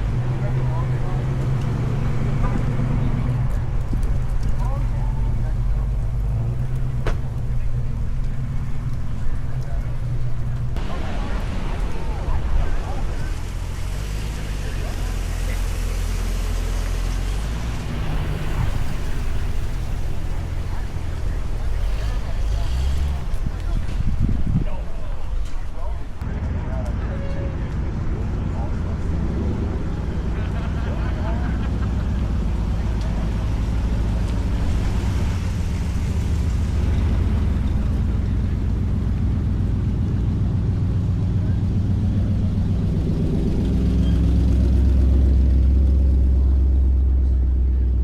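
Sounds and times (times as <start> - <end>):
car engine rumbling: 0.0 - 48.0.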